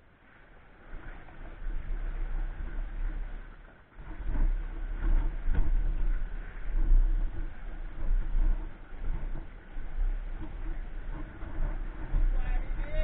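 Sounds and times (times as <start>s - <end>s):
wind buffeting microphone: 0.8s - 13.0s.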